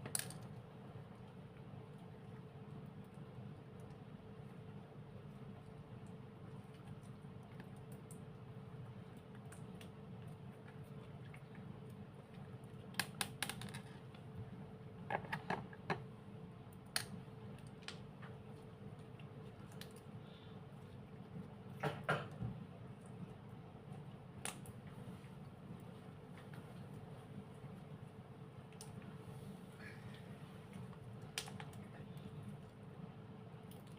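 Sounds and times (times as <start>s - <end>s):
faint steady hum: 0.0s - 33.9s.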